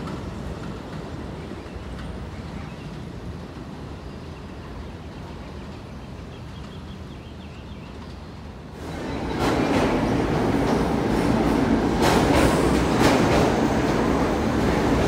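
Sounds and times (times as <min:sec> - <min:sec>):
subway train rumbling away: 0:00.0 - 0:15.0.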